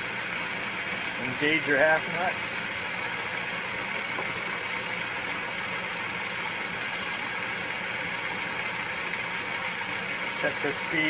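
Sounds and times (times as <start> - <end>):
metal lathe motor whirring: 0.0 - 11.0.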